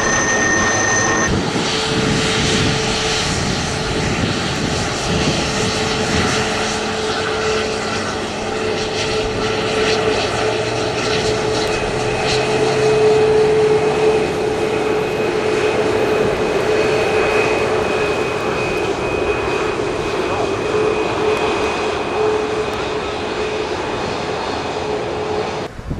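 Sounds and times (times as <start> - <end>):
airliner engines rushing and whining: 0.0 - 25.9.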